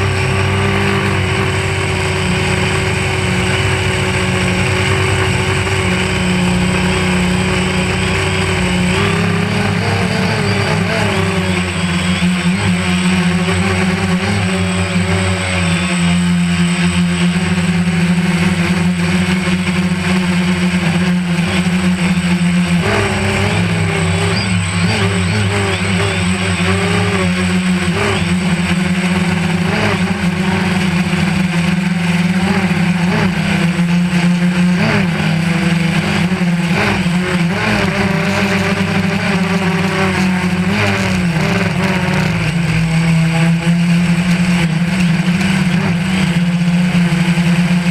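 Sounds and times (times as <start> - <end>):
drone motors and propellers humming: 0.0 - 47.9.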